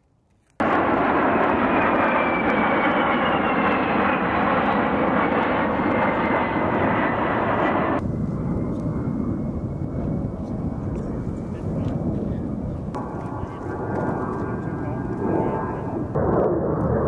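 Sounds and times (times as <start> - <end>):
jet engines rushing with high whine: 0.6 - 17.0.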